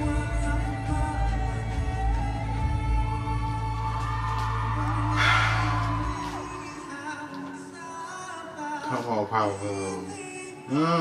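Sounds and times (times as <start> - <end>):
live concert music with singing: 0.0 - 11.0.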